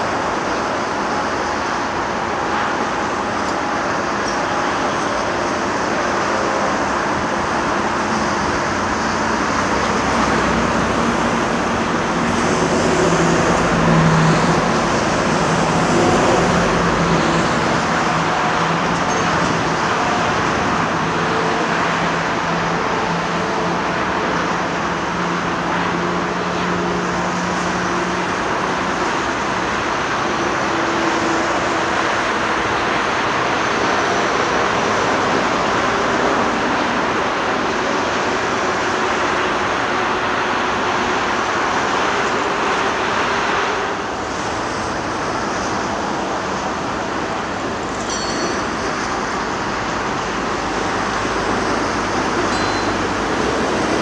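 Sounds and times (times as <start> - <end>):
diesel engine hum: 0.0 - 54.0
motorway traffic: 0.0 - 54.0.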